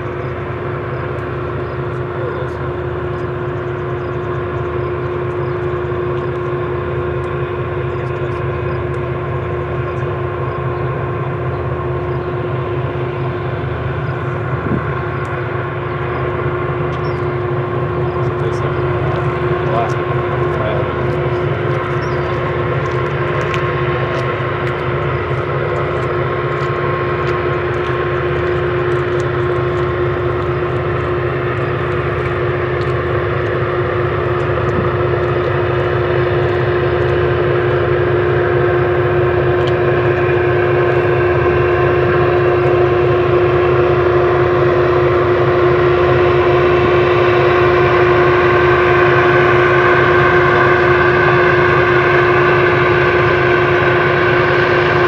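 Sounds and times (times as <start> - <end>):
locomotive whine: 0.0 - 55.0
low engine rumble: 0.0 - 55.0.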